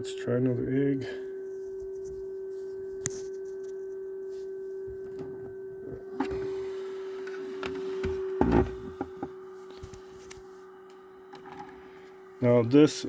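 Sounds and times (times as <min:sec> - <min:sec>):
steady electric hum: 0:00.0 - 0:13.0.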